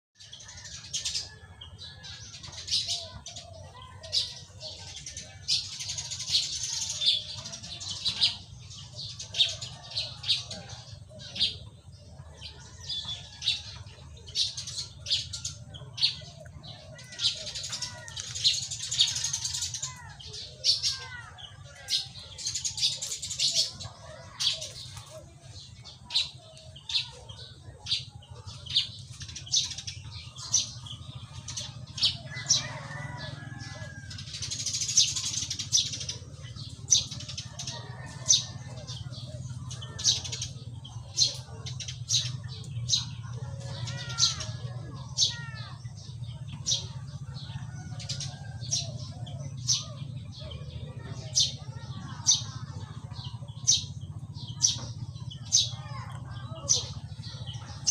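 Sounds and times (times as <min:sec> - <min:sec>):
songbird chirping and twittering: 0:00.1 - 0:57.9.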